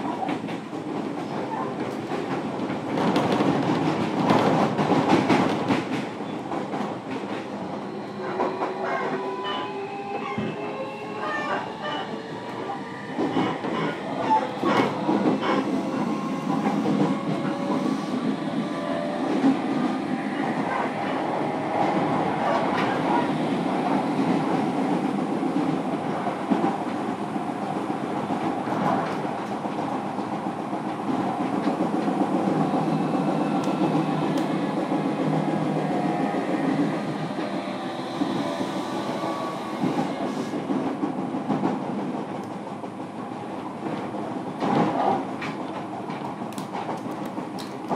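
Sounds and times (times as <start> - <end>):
wheels running on rail: 0.0 - 47.9
rail joint clicks: 0.1 - 23.2, 28.2 - 42.7, 43.8 - 47.9.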